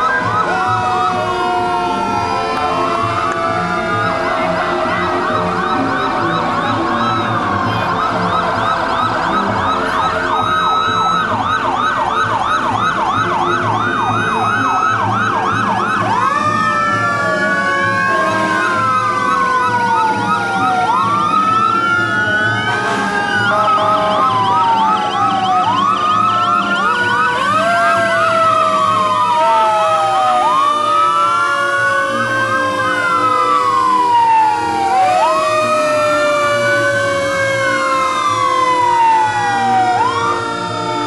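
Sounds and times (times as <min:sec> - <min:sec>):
fire engine sirens wailing: 0:00.0 - 0:41.0
fire truck engines rumbling: 0:00.0 - 0:41.0.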